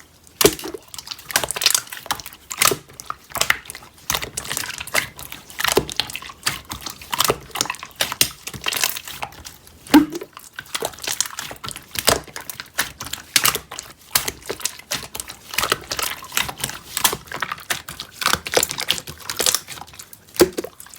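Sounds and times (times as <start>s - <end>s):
wet squishy handling: 0.0s - 20.9s.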